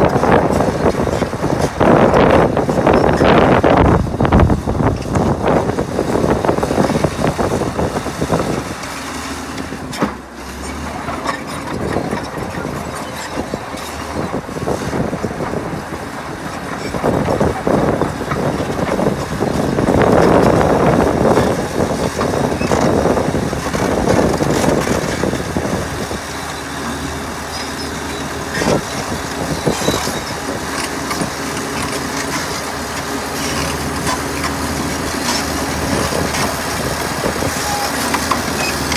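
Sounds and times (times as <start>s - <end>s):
diesel earthmoving machinery working: 0.0s - 38.9s.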